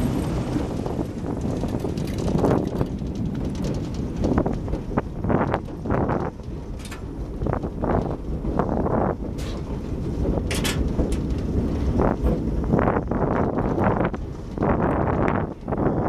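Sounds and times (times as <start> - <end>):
train low rumble: 0.0 - 16.0
wind buffeting microphone: 0.0 - 16.0.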